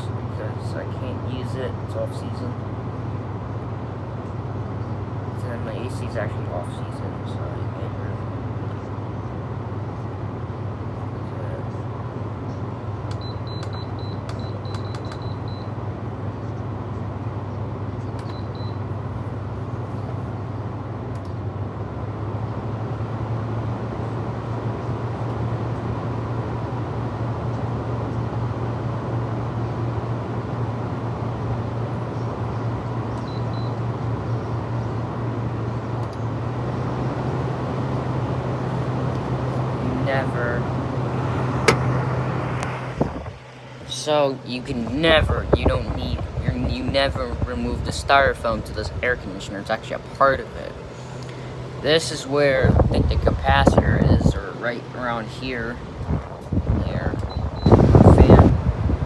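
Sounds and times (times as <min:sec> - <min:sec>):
air conditioner compressor hum: 0:00.0 - 0:59.0
fan rushing: 0:00.0 - 0:59.0.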